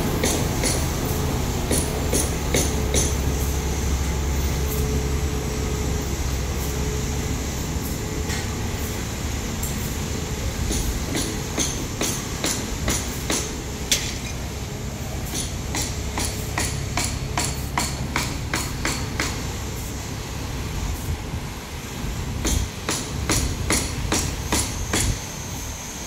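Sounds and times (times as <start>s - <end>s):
engine running low: 0.0s - 26.0s.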